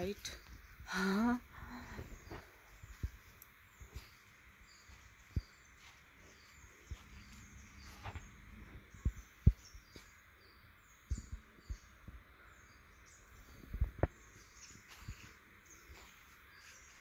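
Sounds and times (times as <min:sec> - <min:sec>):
faint outdoor hiss: 0:00.0 - 0:17.0
small birds chirping: 0:00.0 - 0:17.0.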